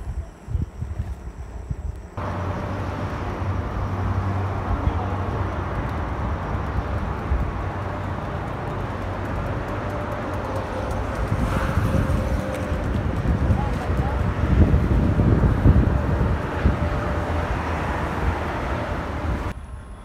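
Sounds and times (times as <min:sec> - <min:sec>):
bike rumbling on dirt trail: 0:02.2 - 0:19.5.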